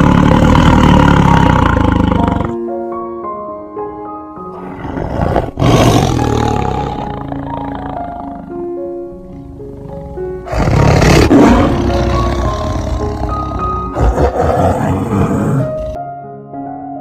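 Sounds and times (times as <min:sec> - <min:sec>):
large animal roaring: 0:00.0 - 0:02.6, 0:04.5 - 0:16.0.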